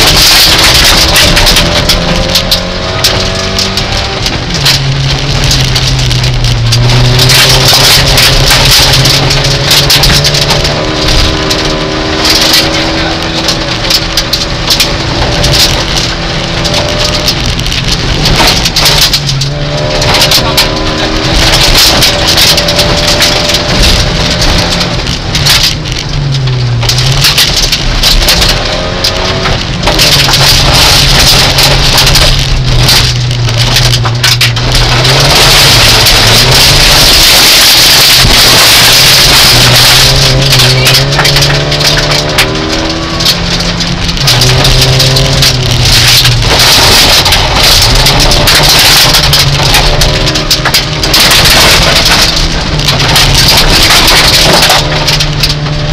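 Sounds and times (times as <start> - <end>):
gravel hitting car underbody: 0.0 - 55.9
rally car engine under load: 0.0 - 55.9.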